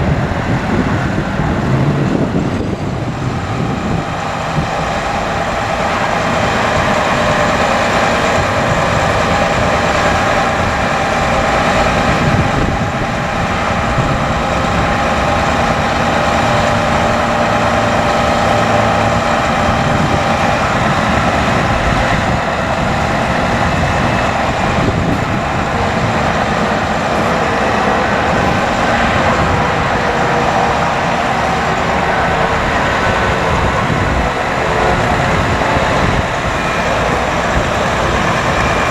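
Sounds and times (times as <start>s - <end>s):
diesel engine idling: 0.0s - 38.9s
hydraulic whine: 0.0s - 38.9s.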